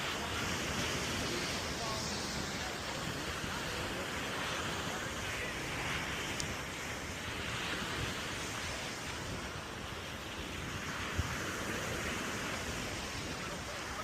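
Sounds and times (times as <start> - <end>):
ocean surf washing ashore: 0.0 - 14.0
wind on microphone: 0.0 - 14.0.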